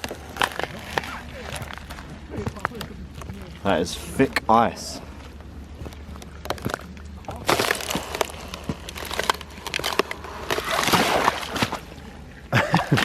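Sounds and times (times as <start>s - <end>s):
ice cracking and crunching: 0.0s - 4.3s, 5.8s - 13.0s.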